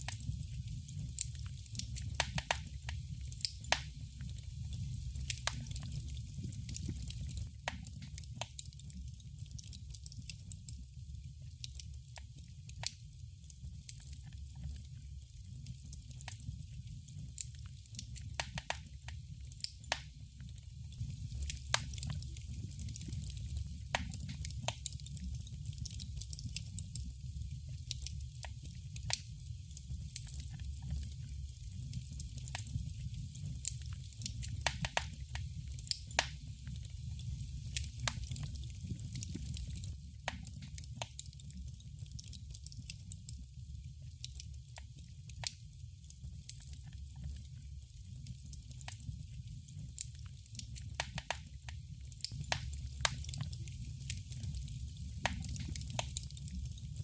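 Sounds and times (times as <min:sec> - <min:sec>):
low rumble of burning fire: 0:00.0 - 0:57.0
wood fire crackling: 0:00.0 - 0:57.0.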